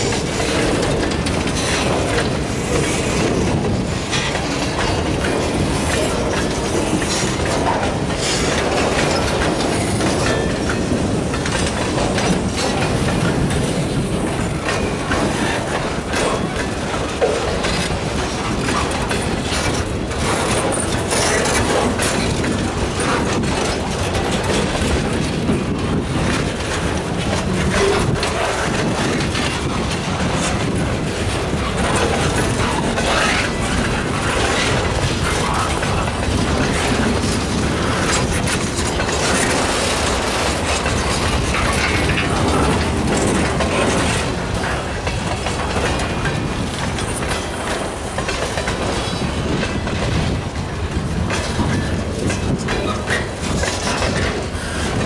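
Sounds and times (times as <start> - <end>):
freight train rolling past: 0.0 - 55.0
wheels clicking over rail joints: 0.0 - 55.0.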